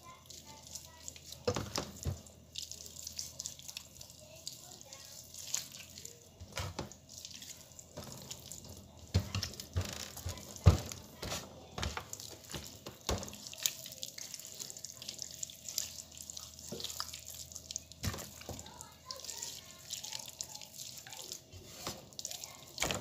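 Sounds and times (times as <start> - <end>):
wet squelching of hands: 0.3 - 23.0.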